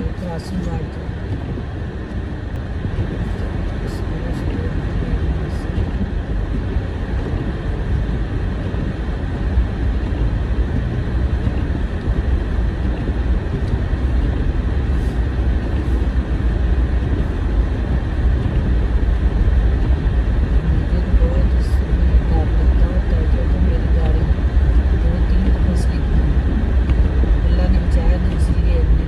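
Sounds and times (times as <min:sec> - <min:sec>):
car interior rumble: 0:00.0 - 0:29.0.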